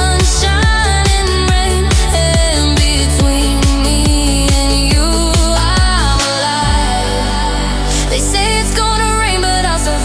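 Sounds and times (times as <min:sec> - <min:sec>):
synth bass line: 0:00.0 - 0:10.0
synth chords: 0:00.0 - 0:10.0.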